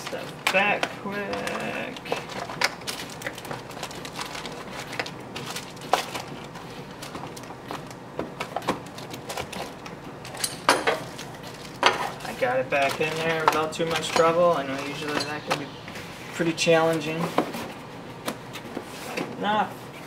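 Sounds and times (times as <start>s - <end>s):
plastic bags rustling: 0.0s - 20.0s.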